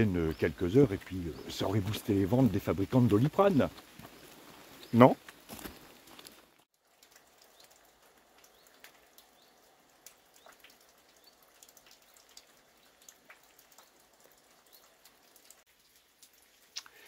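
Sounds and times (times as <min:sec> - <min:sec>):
faint rain falling: 0:00.0 - 0:17.0
water drips: 0:00.0 - 0:17.0.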